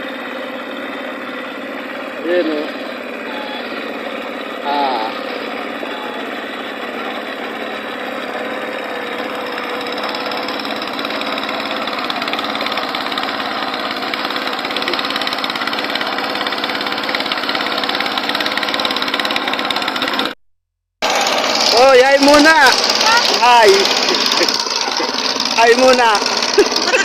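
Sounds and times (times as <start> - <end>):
tractor engine running: 0.0 - 20.4, 21.0 - 27.0.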